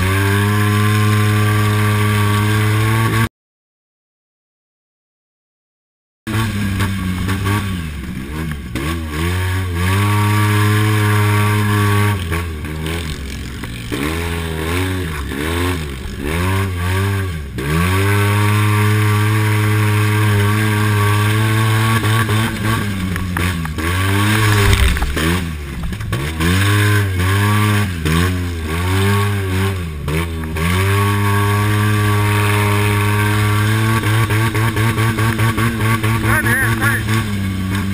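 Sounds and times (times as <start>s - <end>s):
engine revving at high revs: 0.0s - 3.3s, 6.3s - 37.9s.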